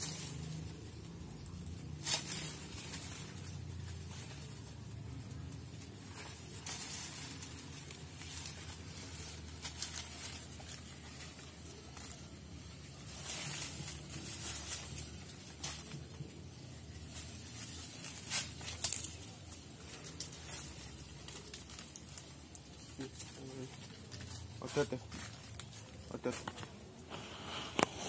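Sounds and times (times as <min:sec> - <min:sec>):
tree leaves and branches rustling: 0:00.0 - 0:28.0.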